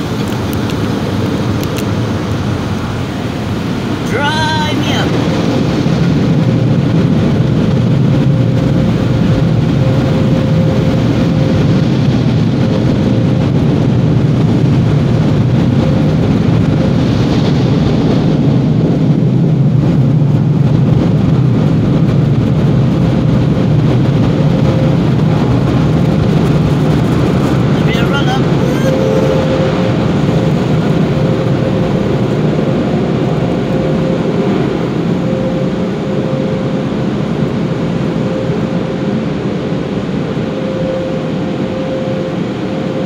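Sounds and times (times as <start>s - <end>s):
car wash machinery running: 0.0s - 43.0s.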